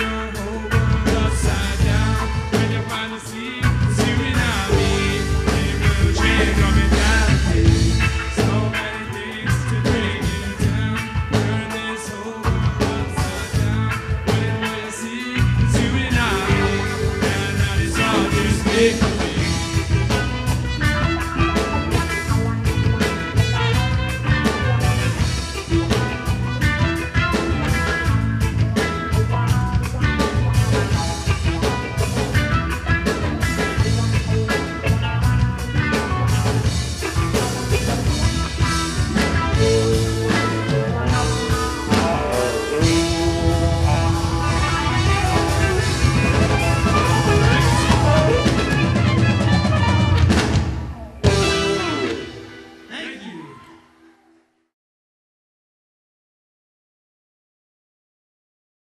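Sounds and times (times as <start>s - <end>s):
drum kit beat: 0.0s - 53.1s
electric guitar: 0.0s - 53.7s.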